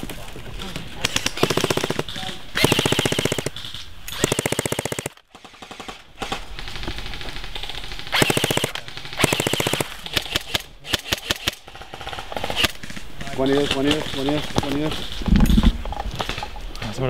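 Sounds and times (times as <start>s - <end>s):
electric rifles firing bursts: 1.0s - 15.3s.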